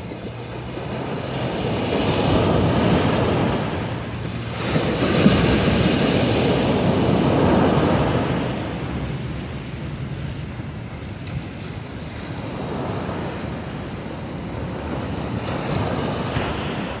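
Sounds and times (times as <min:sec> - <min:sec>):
sea waves surging and washing: 0:00.0 - 0:17.0.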